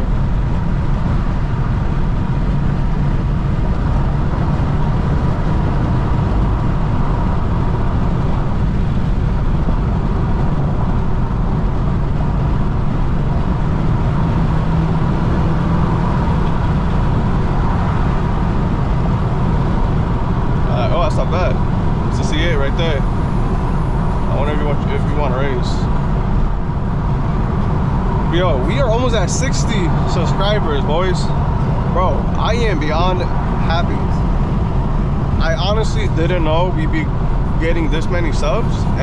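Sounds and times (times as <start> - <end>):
car engine drone: 0.0 - 39.0
tyre and road noise: 0.0 - 39.0.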